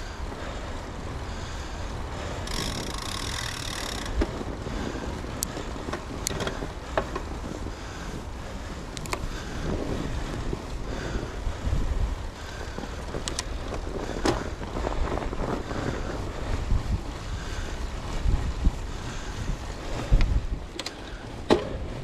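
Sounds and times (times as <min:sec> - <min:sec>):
bike ride rumble: 0:00.0 - 0:22.0
wind noise on microphone: 0:00.0 - 0:22.0.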